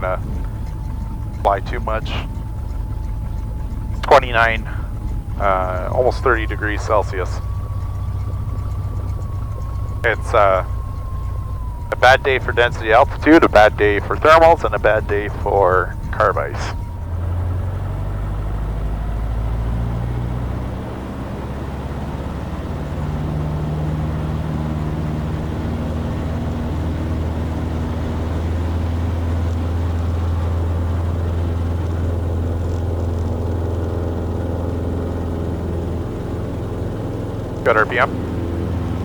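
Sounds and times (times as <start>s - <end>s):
piston aircraft engine running: 0.0s - 39.0s.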